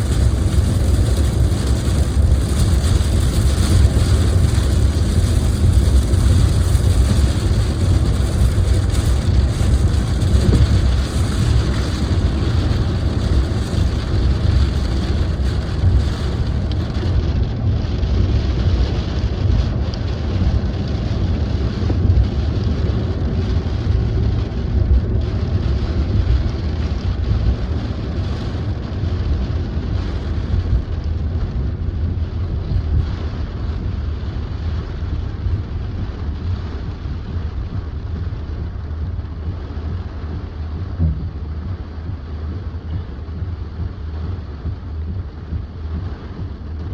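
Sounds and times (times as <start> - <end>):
tyres hissing on wet road: 0.0 - 40.8
car cabin rumble: 0.0 - 46.9.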